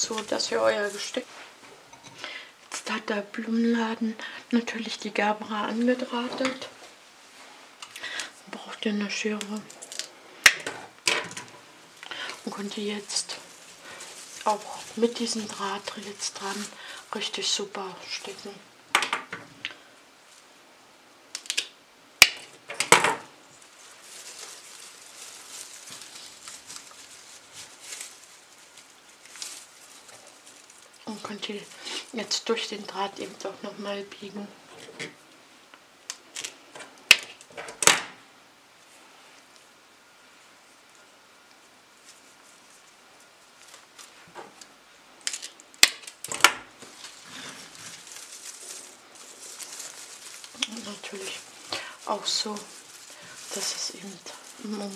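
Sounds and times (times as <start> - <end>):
rustle of leaves and stems: 0.0 - 18.8, 19.5 - 21.8, 22.4 - 37.6, 38.7 - 54.9.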